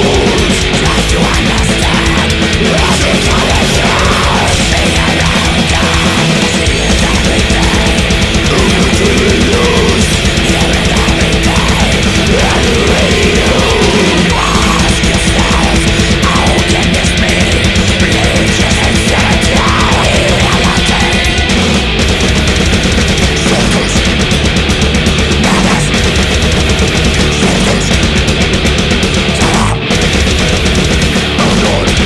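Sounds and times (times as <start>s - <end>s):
distorted electric guitars: 0.0s - 32.0s
fast dense drumming: 0.0s - 32.0s.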